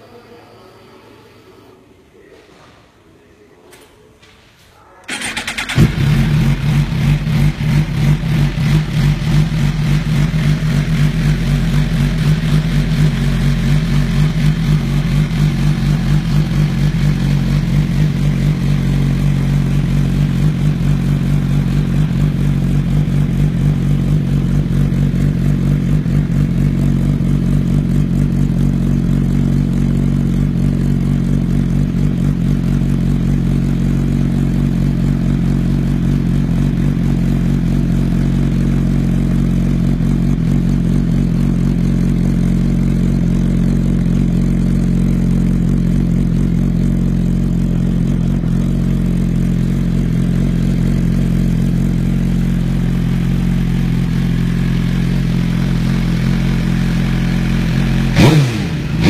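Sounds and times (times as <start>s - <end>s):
motorcycle engine starting and idling: 4.9s - 59.0s.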